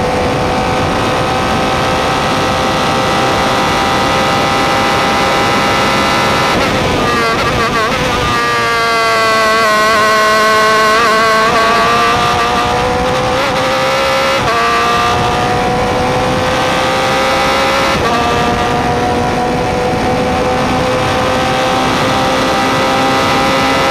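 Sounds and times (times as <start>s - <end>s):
race car engine accelerating: 0.0s - 23.9s
wind noise: 0.0s - 23.9s.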